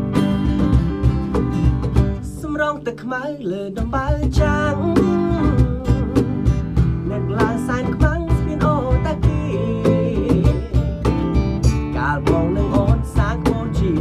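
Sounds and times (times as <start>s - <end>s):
steady beat: 0.0s - 2.6s, 3.8s - 14.0s
strummed acoustic guitar: 0.0s - 14.0s
person singing: 2.3s - 14.0s.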